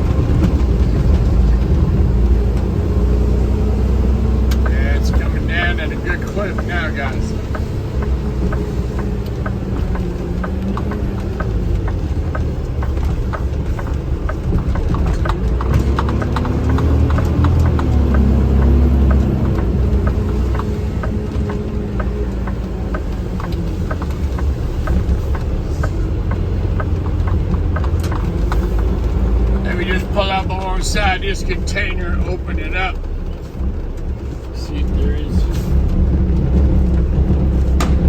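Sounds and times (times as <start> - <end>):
truck engine rumbling: 0.0 - 38.0
sharp rhythmic clicks: 4.1 - 38.0.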